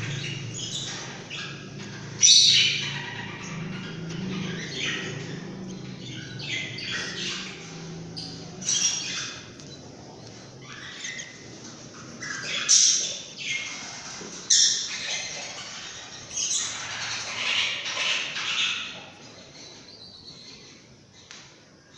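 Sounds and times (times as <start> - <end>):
bird chicks squawking: 0.0 - 21.4.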